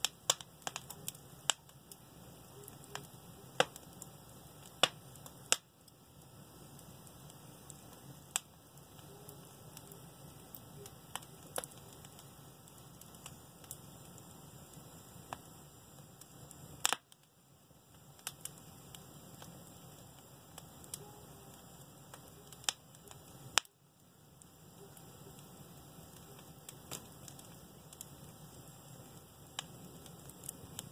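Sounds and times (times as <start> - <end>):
sharp pops from fire: 0.0 - 30.9
wood fire crackling: 0.0 - 30.9.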